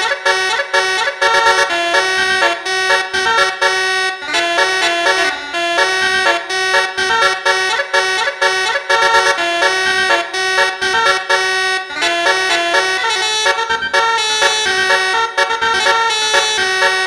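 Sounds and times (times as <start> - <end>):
multi-tone horn melody: 0.0 - 17.0.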